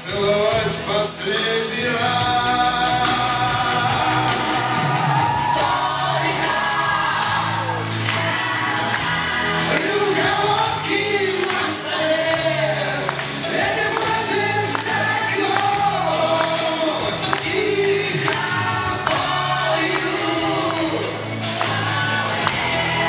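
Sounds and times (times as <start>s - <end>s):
band backing track: 0.0s - 23.0s
person singing into microphone: 0.0s - 23.0s.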